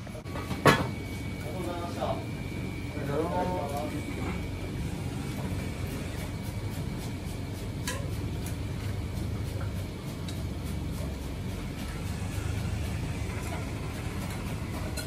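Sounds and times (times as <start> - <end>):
kitchen equipment rumble: 0.0 - 15.0.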